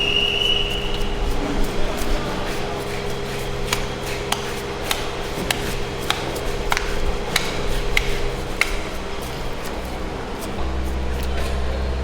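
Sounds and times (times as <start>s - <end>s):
steady machine hum: 0.0s - 12.0s
knife chopping on cutting board: 0.8s - 10.6s.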